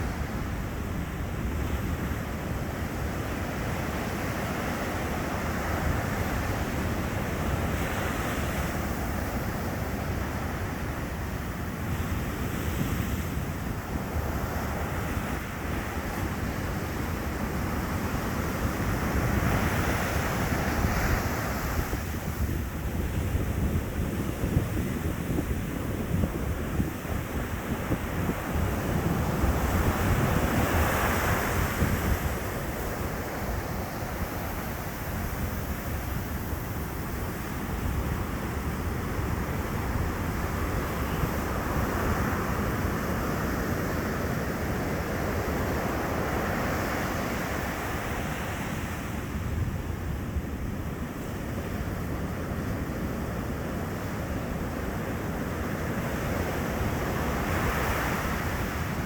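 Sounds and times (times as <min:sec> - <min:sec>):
sea waves breaking on beach: 0:00.0 - 0:59.0
wind buffeting microphone: 0:00.0 - 0:59.0.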